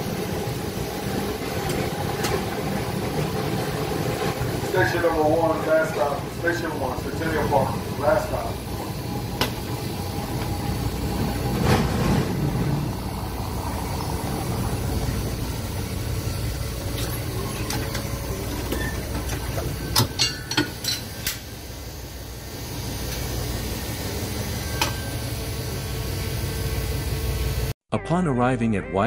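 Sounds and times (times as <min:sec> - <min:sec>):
streetcar low rumble: 0:00.0 - 0:27.7.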